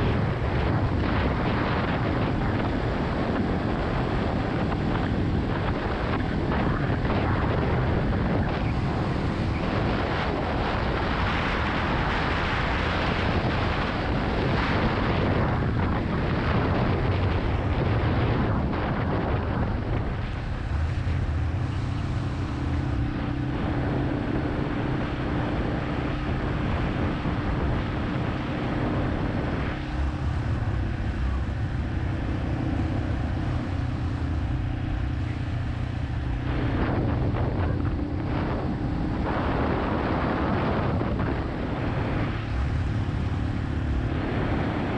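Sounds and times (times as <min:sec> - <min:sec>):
motorcycle engine running: 0:00.0 - 0:44.9
wind on microphone: 0:00.0 - 0:44.9.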